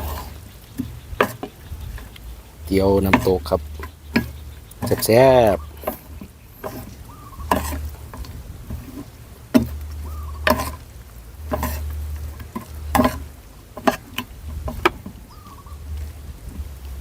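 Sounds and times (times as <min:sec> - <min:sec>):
mouth and utensil noises: 0:00.0 - 0:17.0.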